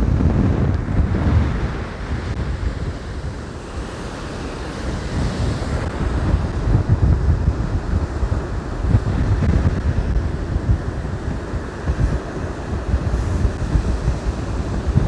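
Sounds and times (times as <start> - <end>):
storm surf: 0.0 - 15.0
wind buffeting microphone: 0.0 - 15.0.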